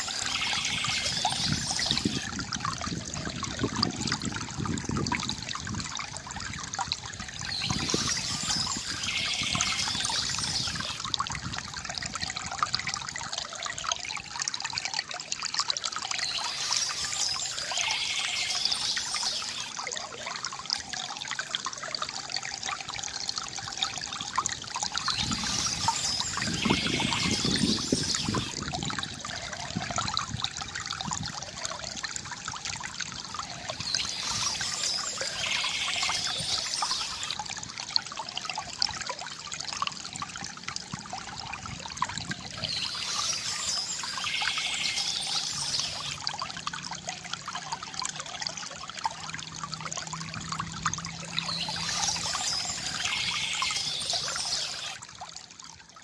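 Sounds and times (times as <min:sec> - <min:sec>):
water trickling from fountain: 0:00.0 - 0:56.0.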